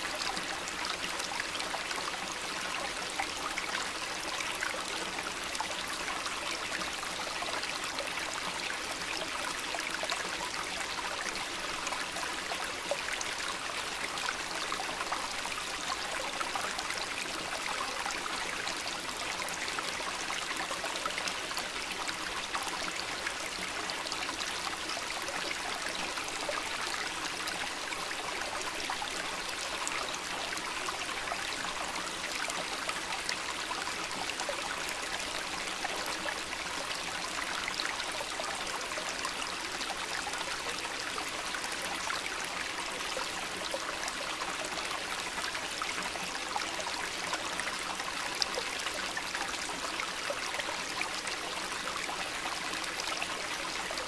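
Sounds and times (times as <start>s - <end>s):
stream water running over stones: 0.0s - 54.0s.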